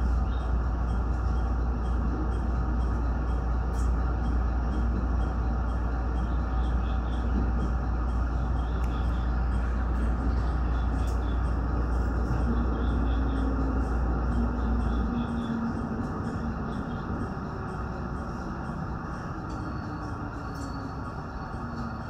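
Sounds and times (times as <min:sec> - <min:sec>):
train rumbling ride noise: 0:00.0 - 0:22.0.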